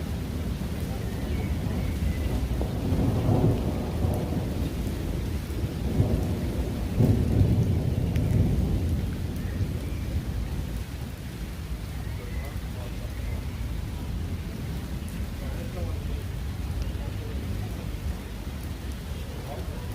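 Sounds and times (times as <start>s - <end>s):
rain falling: 0.0s - 19.9s.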